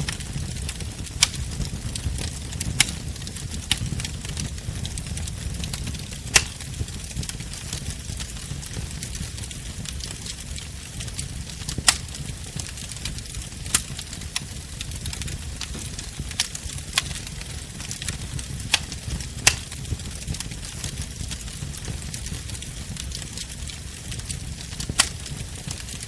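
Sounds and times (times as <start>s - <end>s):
burning wood popping: 0.0s - 26.0s
wood fire crackling: 0.0s - 26.0s.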